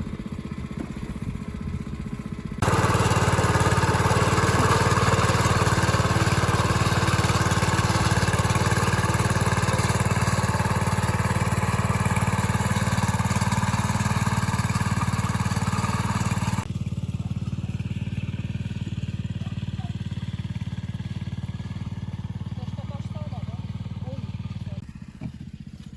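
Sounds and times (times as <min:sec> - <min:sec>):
engine running steadily: 0:00.0 - 0:25.9.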